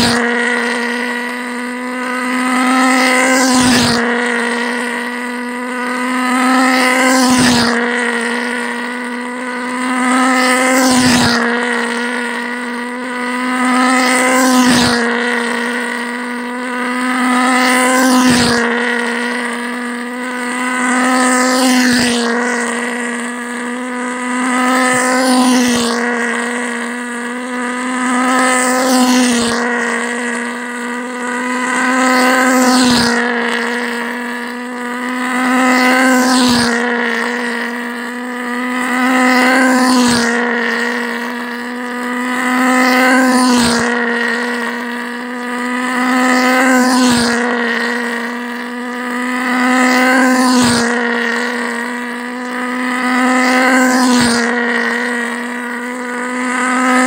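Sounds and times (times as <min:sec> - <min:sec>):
pulse jet engine buzz: 0:00.0 - 0:57.0.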